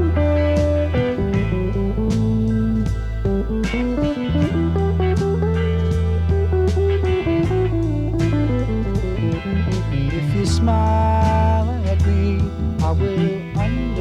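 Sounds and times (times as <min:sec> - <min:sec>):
electric guitar: 0:00.0 - 0:14.0
instrumental rock music: 0:00.0 - 0:14.0.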